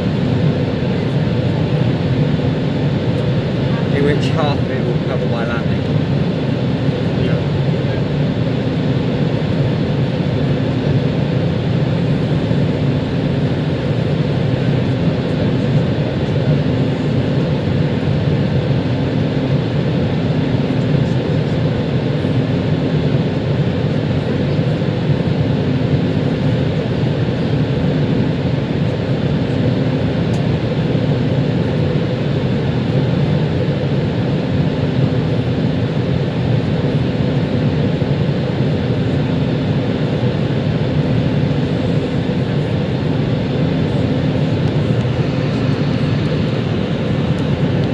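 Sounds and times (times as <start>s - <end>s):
jet engine and airflow rush: 0.0s - 47.9s.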